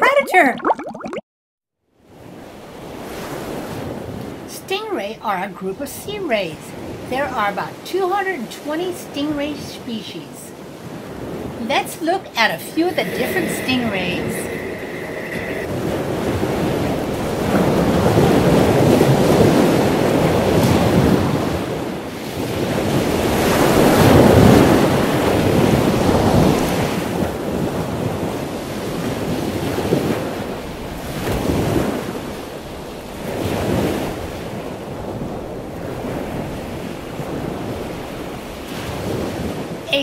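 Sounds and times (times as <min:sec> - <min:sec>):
ocean waves rushing: 0:06.6 - 0:40.0.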